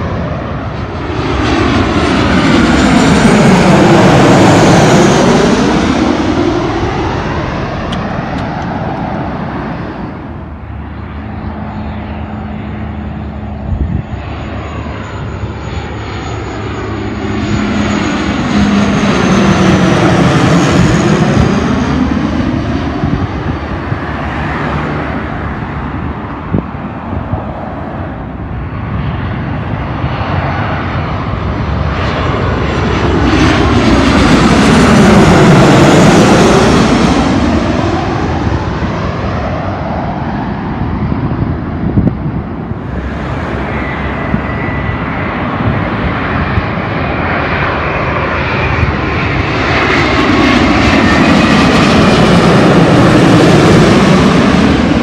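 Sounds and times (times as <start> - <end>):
jet airliner passing overhead: 0.0 - 55.0
turboprop propeller hum: 0.0 - 55.0.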